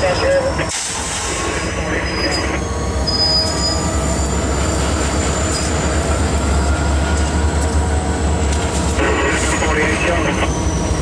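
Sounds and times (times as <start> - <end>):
locomotive engine drone: 0.0 - 11.0
rail and cab noise: 0.0 - 11.0.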